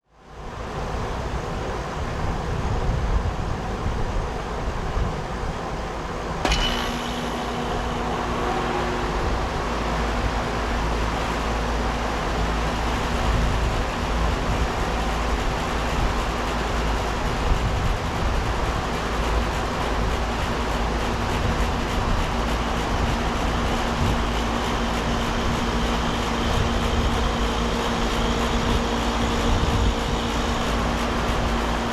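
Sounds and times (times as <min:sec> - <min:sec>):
air conditioner humming: 0:00.5 - 0:31.9.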